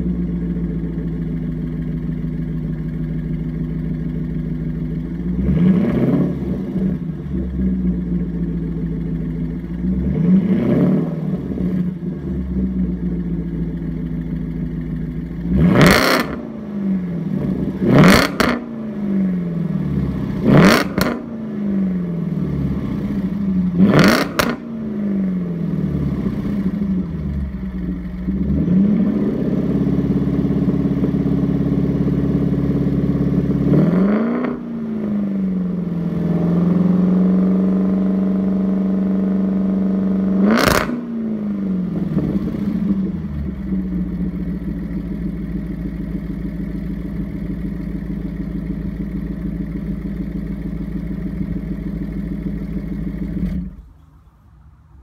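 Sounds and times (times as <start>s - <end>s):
car engine revving: 0.0s - 54.2s
car engine idling: 0.0s - 55.0s.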